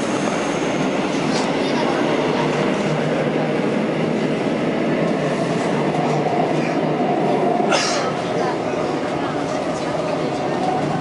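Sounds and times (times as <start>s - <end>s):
subway train wheels rumbling on track: 0.0s - 11.0s.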